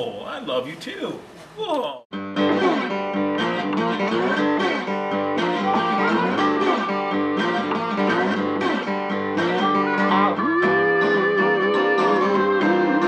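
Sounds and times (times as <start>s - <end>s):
bluesy guitar tune: 2.1s - 13.0s.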